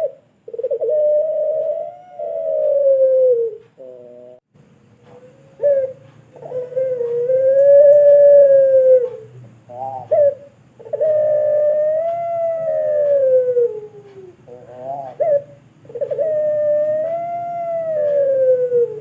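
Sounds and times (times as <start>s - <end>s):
dove cooing: 0.0s - 4.4s, 5.0s - 19.0s.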